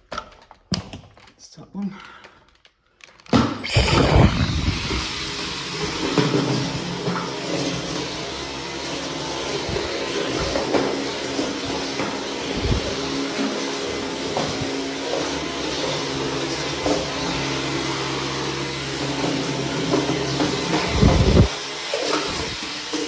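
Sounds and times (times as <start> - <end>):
vacuum cleaner running: 3.6 - 23.0.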